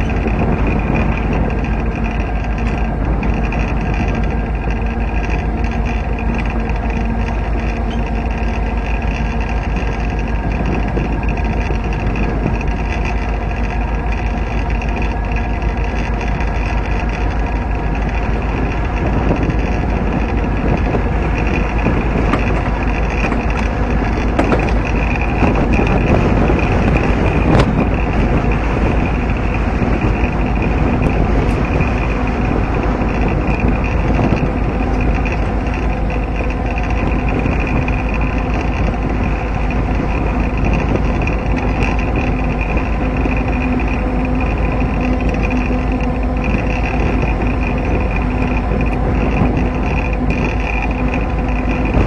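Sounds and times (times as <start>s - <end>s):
diesel engine drone: 0.0s - 52.0s
wheels rumbling on rails: 0.0s - 52.0s.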